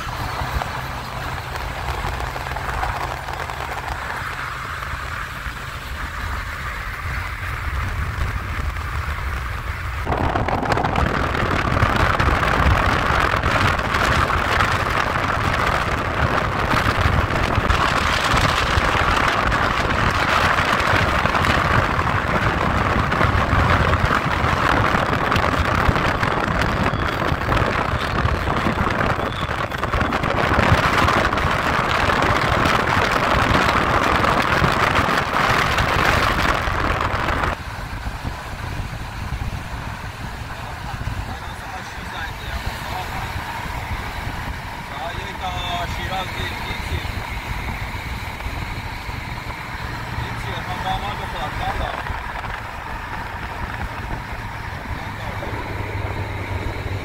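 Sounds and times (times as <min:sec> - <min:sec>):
car tyre rumble: 0:00.0 - 0:57.0
wind rushing past car: 0:00.0 - 0:57.0.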